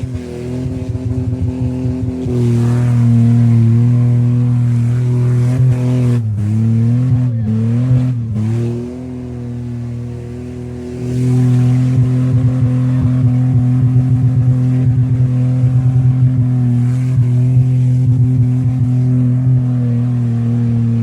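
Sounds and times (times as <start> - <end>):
car engine on rev limiter: 0.0 - 21.0.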